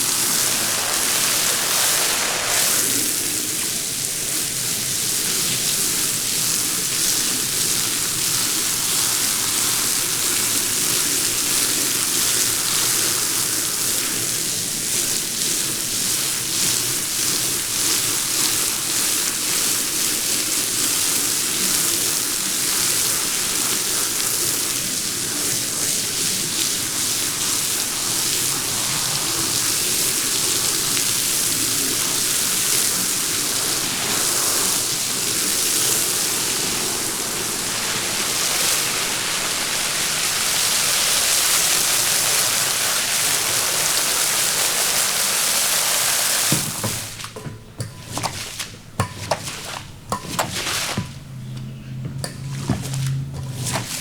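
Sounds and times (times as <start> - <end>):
water spraying onto wet rug: 0.0 - 54.0.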